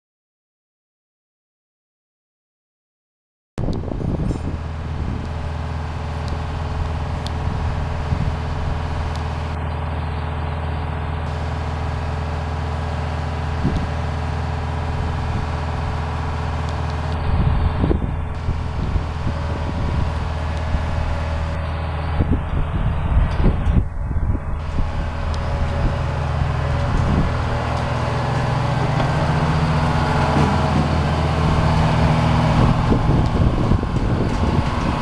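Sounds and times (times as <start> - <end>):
diesel engine droning: 3.6 - 35.0.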